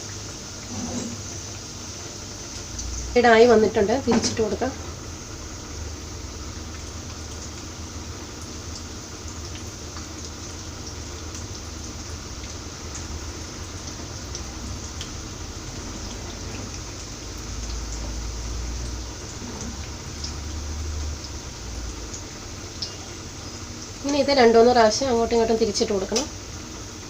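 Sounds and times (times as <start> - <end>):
cutlets sizzling in hot oil: 0.0 - 27.0.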